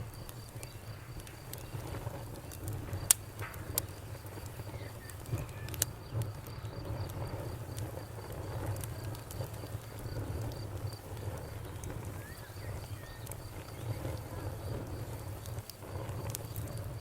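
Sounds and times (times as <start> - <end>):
campfire crackling: 0.0 - 17.0
crickets chirping: 0.0 - 17.0.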